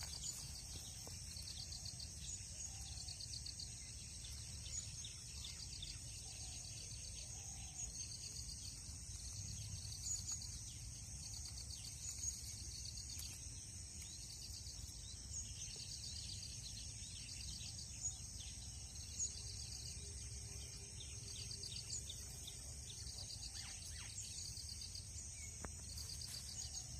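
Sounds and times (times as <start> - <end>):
bird calls: 0.0 - 26.9
insects chirping: 0.0 - 26.9.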